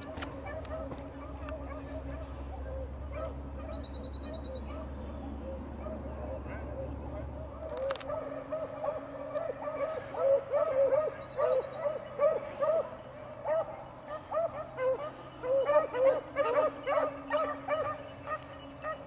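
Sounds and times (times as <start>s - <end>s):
hounds baying and barking: 0.0s - 19.0s.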